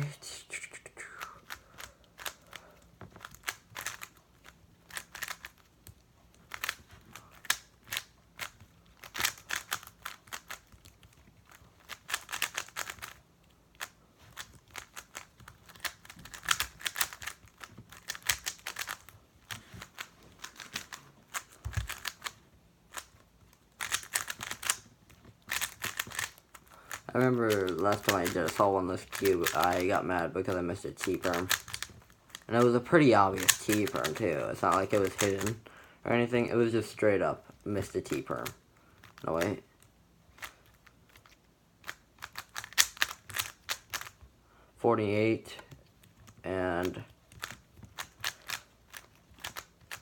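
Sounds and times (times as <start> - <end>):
puzzle cube plastic clicking: 1.0 - 35.6, 37.8 - 44.3, 45.7 - 50.0.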